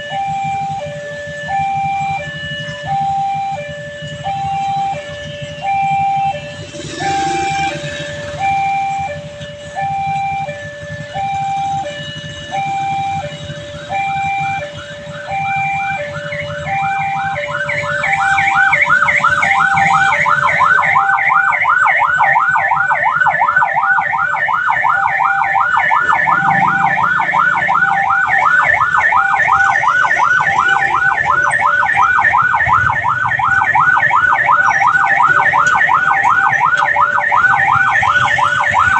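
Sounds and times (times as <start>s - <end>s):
fast warbling electronic alarm: 0.0s - 38.9s
two-tone electronic warning signal: 0.0s - 38.9s.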